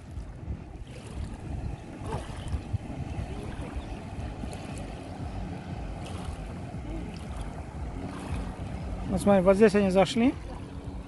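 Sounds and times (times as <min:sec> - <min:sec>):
jet ski engine droning: 0:00.0 - 0:11.0
river water lapping: 0:00.0 - 0:11.0
wind on microphone: 0:00.0 - 0:11.0.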